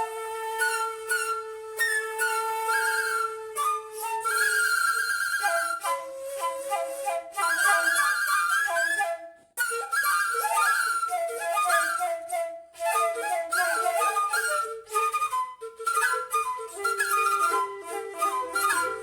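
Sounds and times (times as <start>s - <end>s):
flutes improvising: 0.0s - 19.0s.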